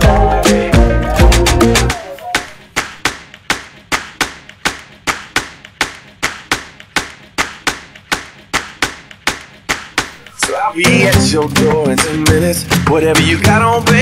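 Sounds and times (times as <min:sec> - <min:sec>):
dry percussion hits: 0:00.0 - 0:14.0.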